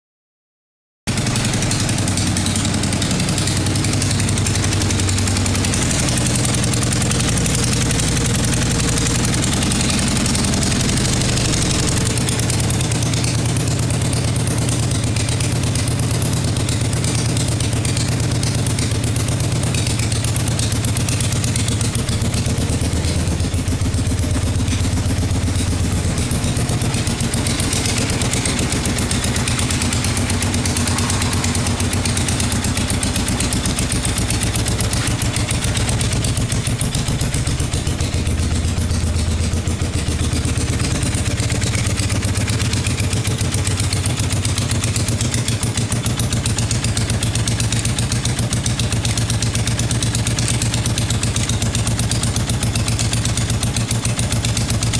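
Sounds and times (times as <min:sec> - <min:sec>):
motorcycle engine idling: 0:01.1 - 0:54.9.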